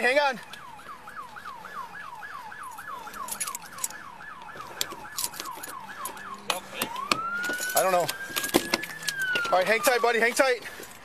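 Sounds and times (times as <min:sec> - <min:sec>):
emergency siren yelp and wail: 0:00.0 - 0:10.8.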